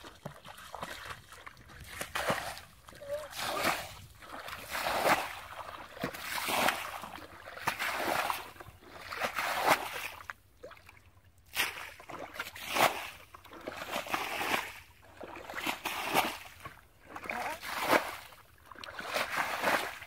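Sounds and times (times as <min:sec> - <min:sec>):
bucket scooping and pouring water: 0:00.0 - 0:20.0.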